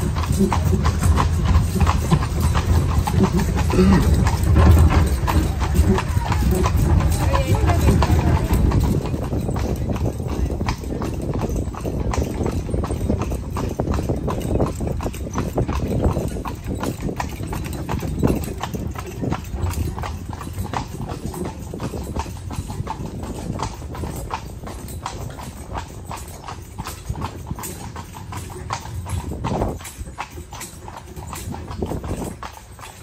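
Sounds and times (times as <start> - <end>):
hooves clip-clopping on pavement: 0.0 - 33.0.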